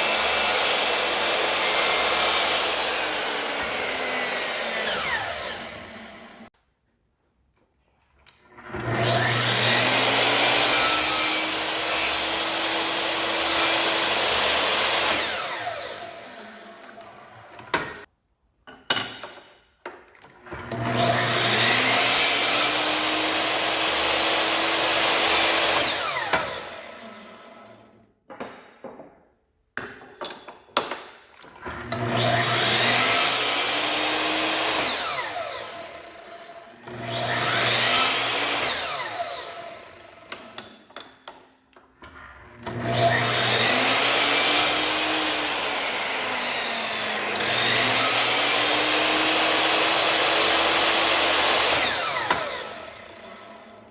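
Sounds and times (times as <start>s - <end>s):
power tool cutting wood: 0.0s - 6.5s, 8.6s - 18.1s, 20.5s - 27.8s, 31.6s - 40.7s, 42.3s - 53.9s.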